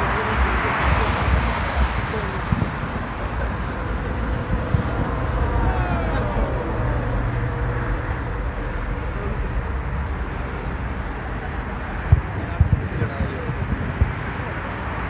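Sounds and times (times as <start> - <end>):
crowd rumble: 0.0 - 15.0
crowd voices: 0.0 - 15.0.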